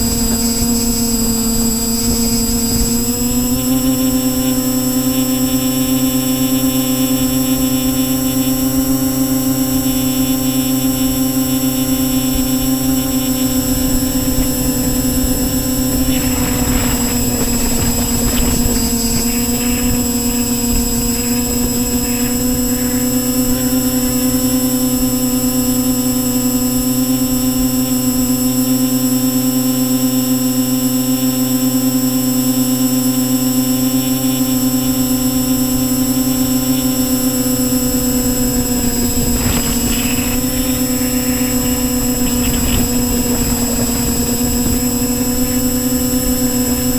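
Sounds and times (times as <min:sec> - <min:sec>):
wind noise: 0:00.0 - 0:28.1, 0:35.1 - 0:46.9
drone motors whining: 0:00.0 - 0:46.9.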